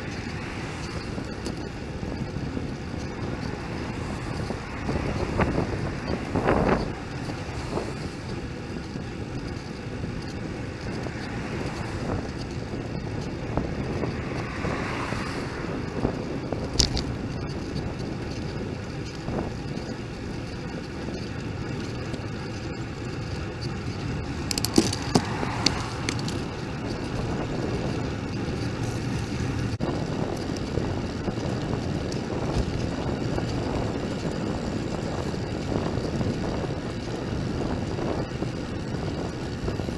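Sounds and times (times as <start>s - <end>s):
bicycle road noise: 0.0s - 39.9s
sharp clicks and rattles: 0.0s - 39.9s
wind rush on microphone: 0.0s - 39.9s.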